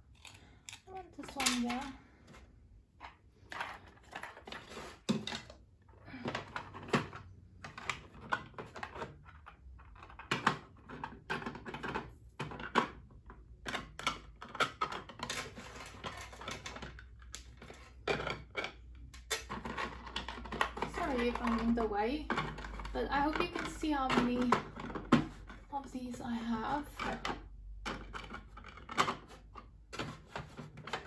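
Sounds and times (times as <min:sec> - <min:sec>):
craft accessories clicking and clattering: 0:00.0 - 0:02.4, 0:03.0 - 0:31.0.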